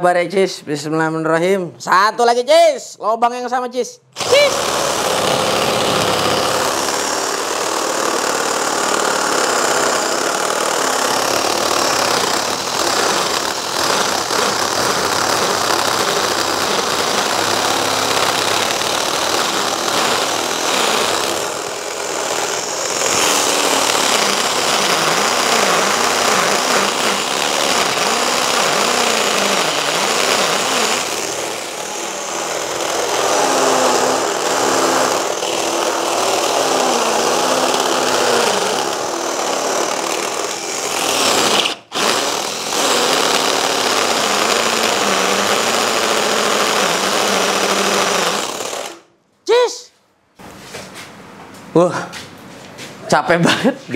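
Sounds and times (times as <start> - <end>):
hammer drill boring into concrete: 4.2 - 49.1.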